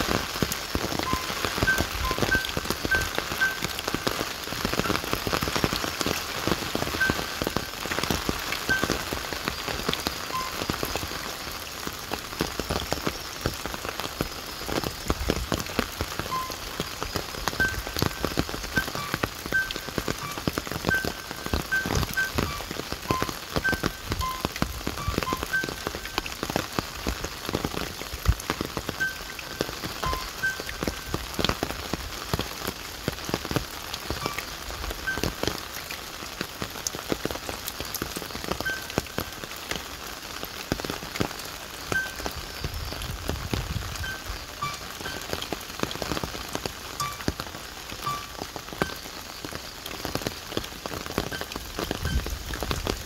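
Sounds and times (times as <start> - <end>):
steady rain patter: 0.0 - 53.0.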